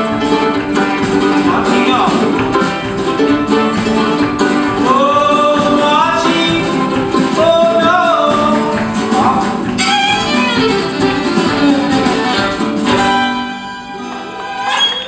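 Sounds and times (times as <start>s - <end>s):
violin melody: 0.0s - 7.2s, 9.6s - 15.0s
bass guitar: 0.0s - 15.0s
strummed guitar: 0.0s - 15.0s.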